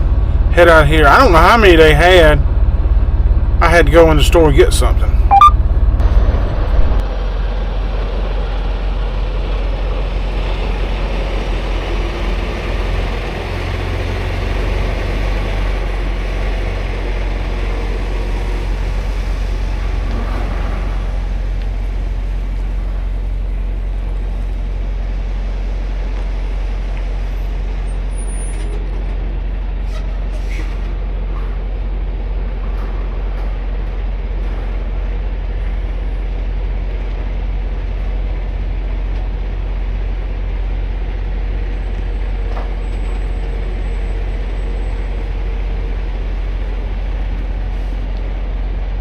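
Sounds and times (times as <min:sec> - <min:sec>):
diesel truck engine rumbling: 0:00.0 - 0:49.0
road noise: 0:00.0 - 0:49.0.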